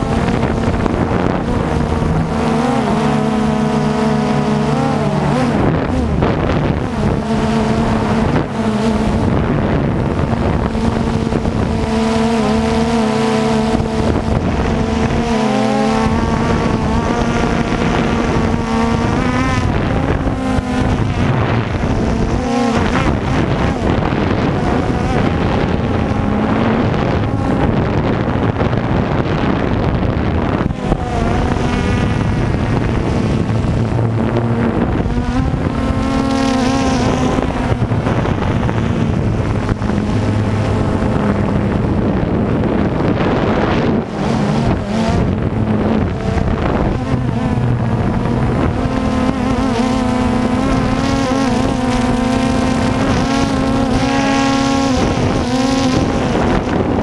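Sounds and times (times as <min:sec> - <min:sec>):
drone motors whining: 0:00.0 - 0:57.0
wind buffeting microphone: 0:00.0 - 0:57.0.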